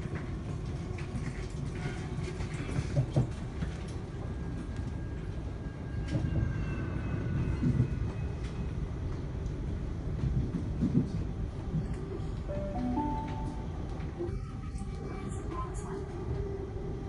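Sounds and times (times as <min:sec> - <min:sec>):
train wheels rumbling on track: 0:00.0 - 0:16.5.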